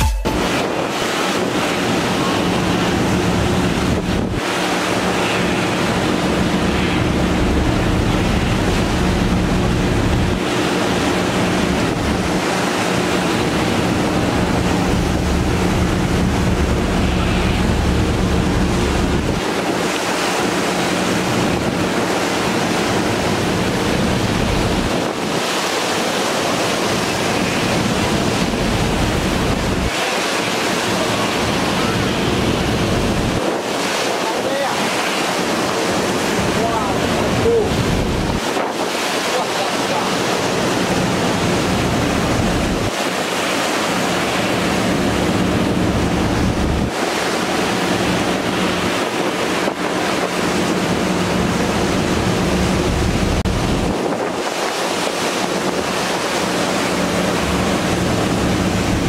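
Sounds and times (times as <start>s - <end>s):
rough sea churning and splashing: 0.0s - 59.0s
wind buffeting microphone: 0.3s - 59.0s.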